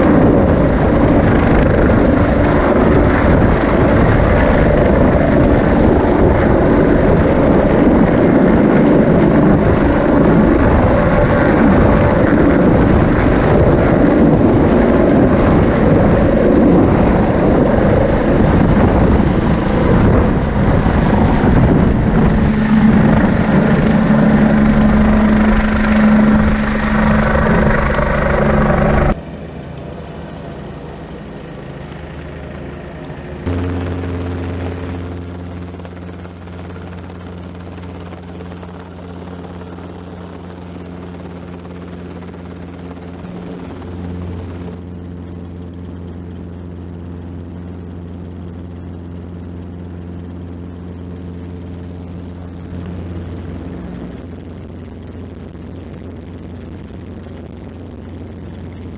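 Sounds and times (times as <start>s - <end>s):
helicopter rotor and engine: 0.0s - 58.9s.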